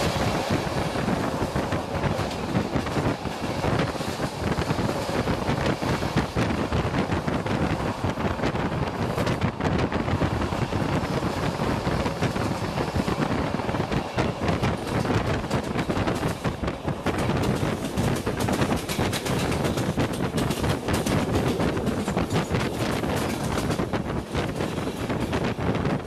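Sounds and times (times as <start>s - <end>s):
train rattling and clicking: 0.0s - 26.0s
wind rushing on microphone: 0.0s - 26.0s.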